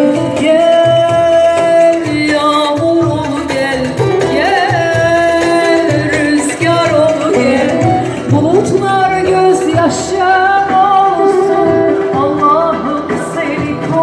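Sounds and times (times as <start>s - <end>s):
electronic keyboard: 0.0s - 14.0s
hand drum rhythm: 0.0s - 14.0s
woman singing: 0.0s - 14.0s.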